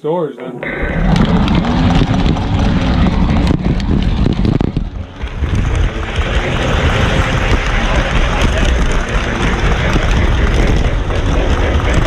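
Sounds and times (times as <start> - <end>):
model train rumbling on track: 0.6 - 12.0.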